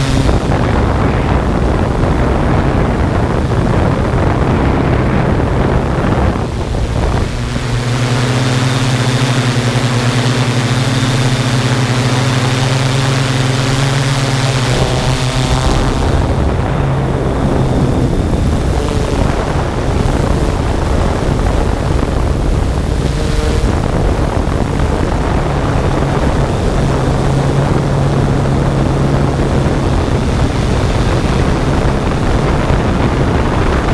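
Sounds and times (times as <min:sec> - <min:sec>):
drone propellers humming: 0:00.0 - 0:33.9
wind noise on microphone: 0:00.0 - 0:33.9.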